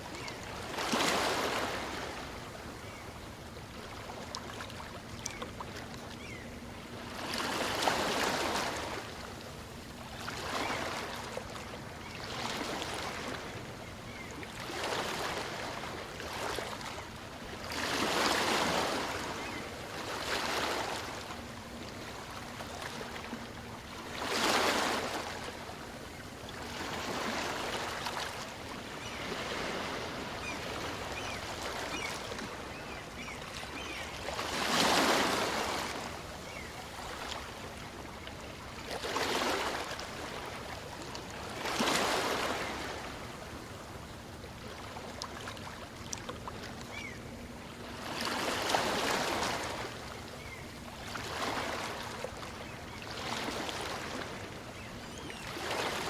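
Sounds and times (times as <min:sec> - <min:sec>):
small waves breaking on beach: 0:00.0 - 0:03.0, 0:07.0 - 0:09.3, 0:14.5 - 0:21.3, 0:21.9 - 0:47.2, 0:47.8 - 0:56.0.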